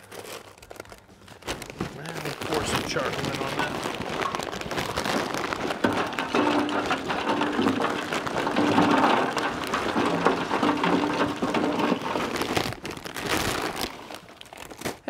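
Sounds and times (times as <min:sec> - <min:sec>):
charcoal clattering into metal hopper: 0:02.2 - 0:14.4.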